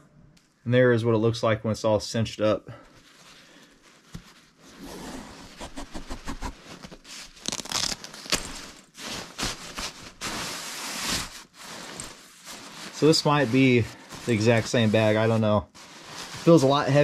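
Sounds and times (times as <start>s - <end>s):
fabric rustling and scraping: 2.9s - 17.0s.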